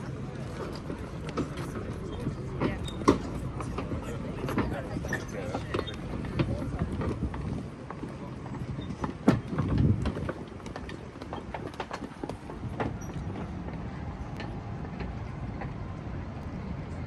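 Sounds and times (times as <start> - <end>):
busy city street background: 0.0 - 17.0.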